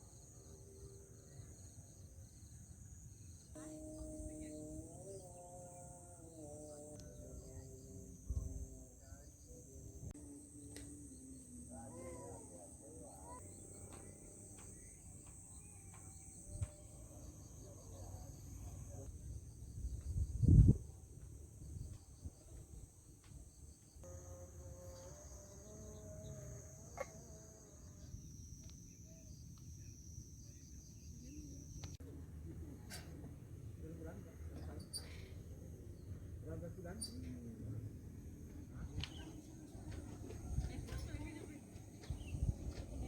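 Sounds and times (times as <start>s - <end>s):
insects chirping: 0.0s - 32.0s, 33.9s - 43.0s.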